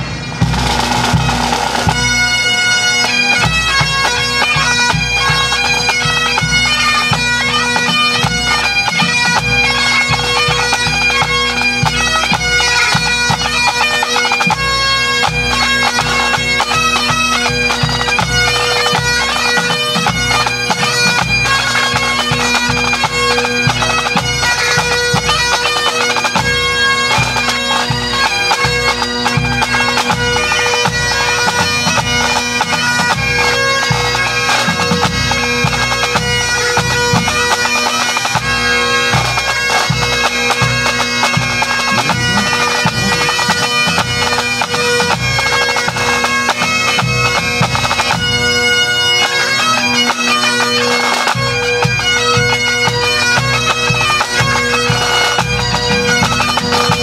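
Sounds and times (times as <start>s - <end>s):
bagpipes playing melody with drones: 0.0s - 57.0s.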